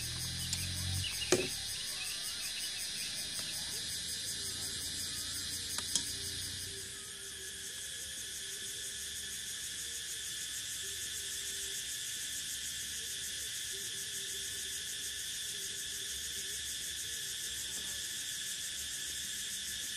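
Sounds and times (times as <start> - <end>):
crickets trilling: 0.0 - 19.9
faint low wavering insect calls: 0.0 - 19.9.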